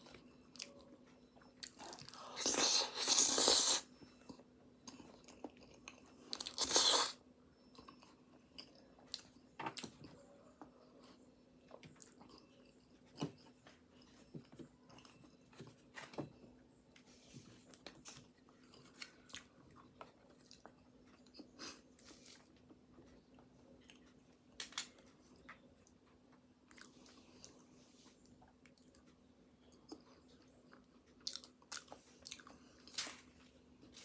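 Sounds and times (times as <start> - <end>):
person chewing crunchy pastry: 0.0 - 15.6, 17.6 - 24.3, 26.3 - 34.0
faint steady hum: 0.0 - 34.0.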